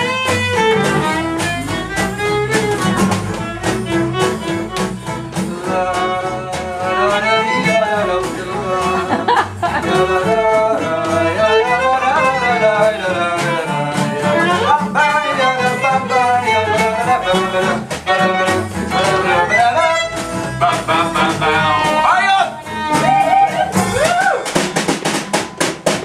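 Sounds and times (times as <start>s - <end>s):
violin melody: 0.0s - 23.5s
folk-rock band playing: 0.0s - 26.0s
percussion hits: 0.0s - 26.0s.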